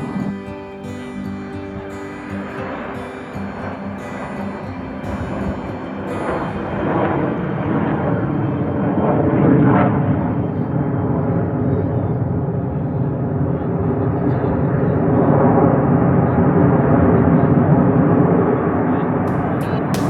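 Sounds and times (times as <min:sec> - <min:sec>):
airplane flying overhead: 0:00.0 - 0:20.0.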